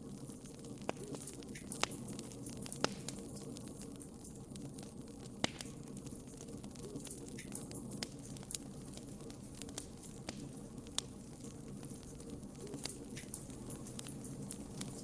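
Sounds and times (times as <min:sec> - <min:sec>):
low rumble of flames: 0:00.0 - 0:15.0
wood fire pops and snaps: 0:00.0 - 0:15.0.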